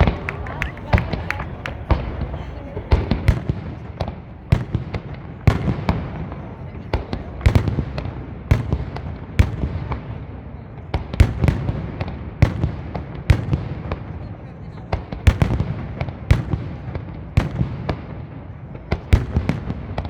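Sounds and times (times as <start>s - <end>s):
firework bursts and bangs: 0.0s - 14.3s, 14.9s - 20.0s.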